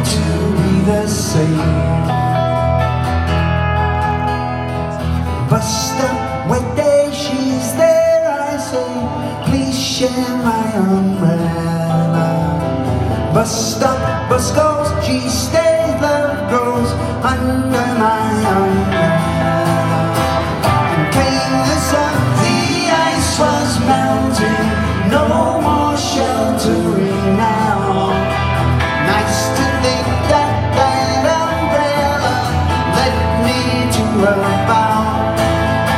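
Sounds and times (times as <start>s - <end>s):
man singing: 0.0s - 3.0s, 3.8s - 35.9s
acoustic guitars: 0.0s - 35.9s.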